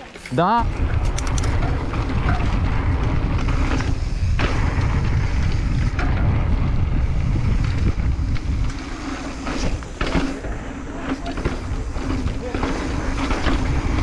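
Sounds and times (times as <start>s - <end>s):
wind buffeting microphone: 0.6s - 14.0s.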